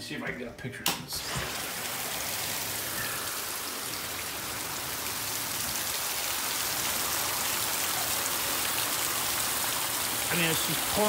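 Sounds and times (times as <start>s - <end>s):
heavy rain pouring: 1.2s - 11.0s.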